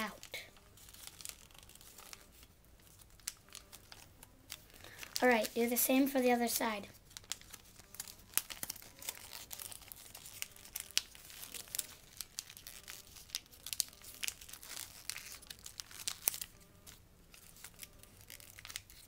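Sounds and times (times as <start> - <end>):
paper folding and crinkling: 0.0 - 19.0.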